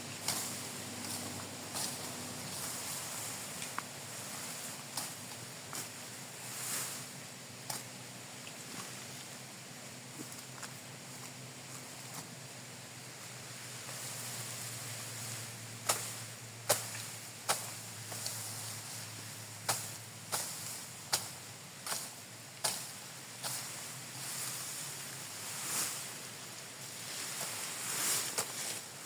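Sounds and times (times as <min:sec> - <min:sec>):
sickle cutting grass: 0:00.0 - 0:09.3, 0:13.0 - 0:29.0
wind hissing in grass: 0:00.0 - 0:29.0.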